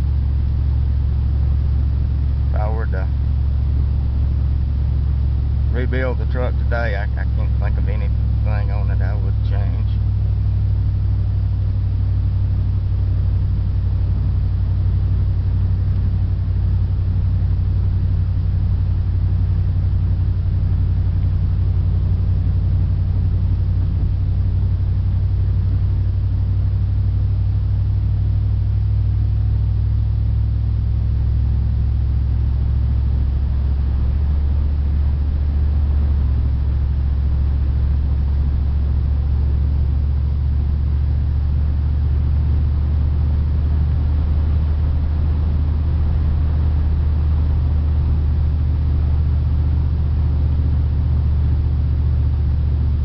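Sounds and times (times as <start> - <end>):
pickup truck engine drone: 0.0 - 53.0.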